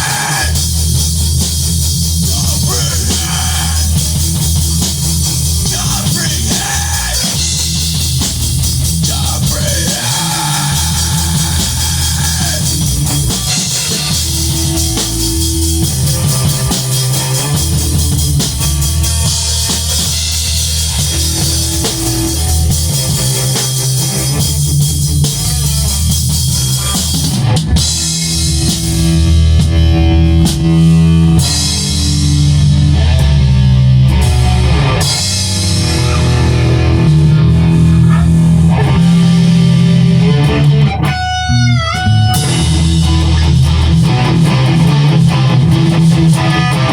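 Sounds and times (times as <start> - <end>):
rock band instrumental: 0.0 - 46.9.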